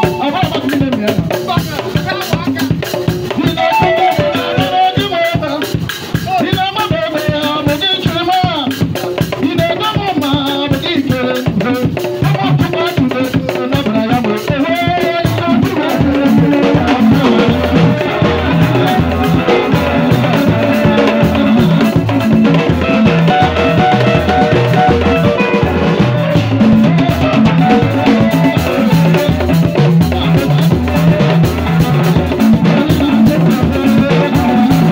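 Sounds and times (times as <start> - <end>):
live band music: 0.0 - 34.9
man singing through pa: 0.0 - 34.9.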